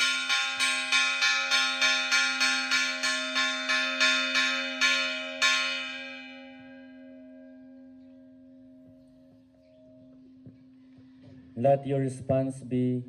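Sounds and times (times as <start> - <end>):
church bell ringing: 0.0 - 10.9.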